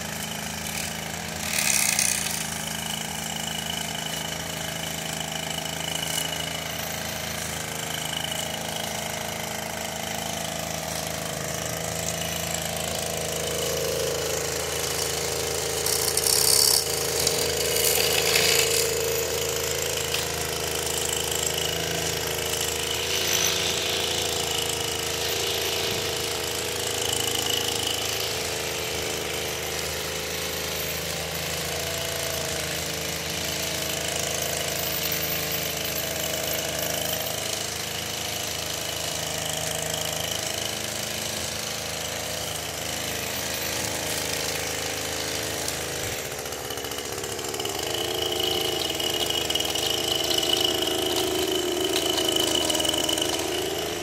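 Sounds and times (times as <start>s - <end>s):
string trimmer cutting grass: 0.0s - 54.0s.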